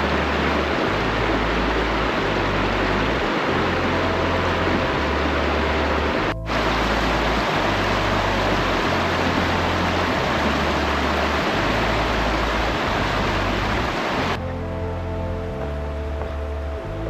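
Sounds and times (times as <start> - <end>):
falling water rushing: 0.0 - 14.4
low background music: 0.0 - 17.0.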